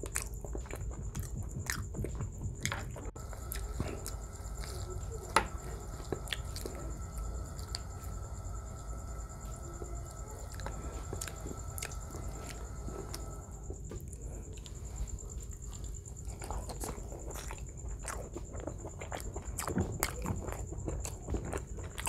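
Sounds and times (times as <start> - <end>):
biting and chewing: 0.0 - 22.0.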